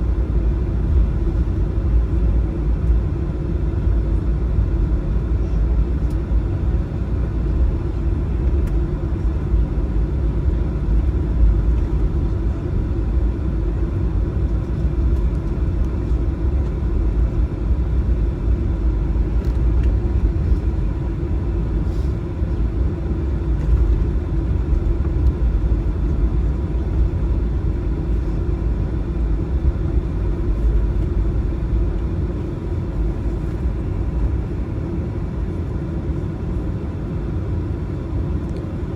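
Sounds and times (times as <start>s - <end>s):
aircraft cabin rumble: 0.0s - 38.9s.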